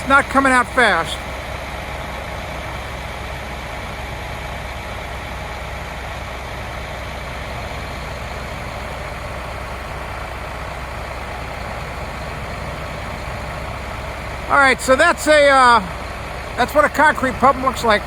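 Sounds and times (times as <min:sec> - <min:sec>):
diesel truck engine droning: 0:00.0 - 0:18.0.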